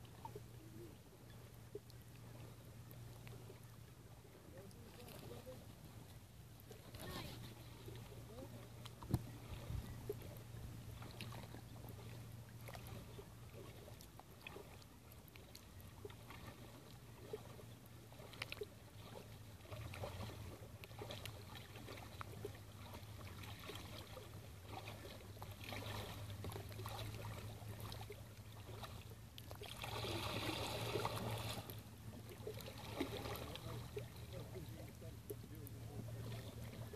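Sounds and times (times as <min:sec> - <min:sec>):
water lapping at rocky shore: 0:00.0 - 0:36.9.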